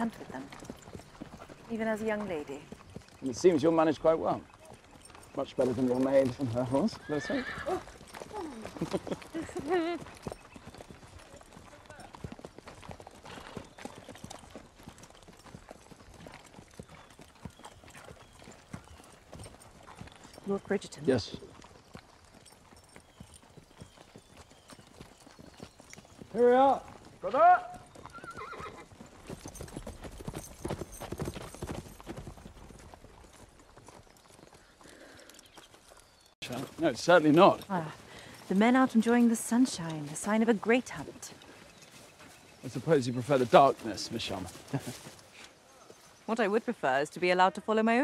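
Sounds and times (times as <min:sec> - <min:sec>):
horse hooves clip-clopping: 0:00.0 - 0:48.0.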